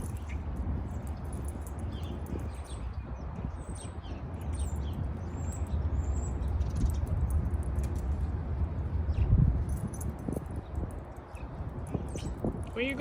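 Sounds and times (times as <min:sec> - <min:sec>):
small birds chirping: 0:00.0 - 0:07.4, 0:08.7 - 0:13.0
steady low rumble: 0:00.0 - 0:13.0.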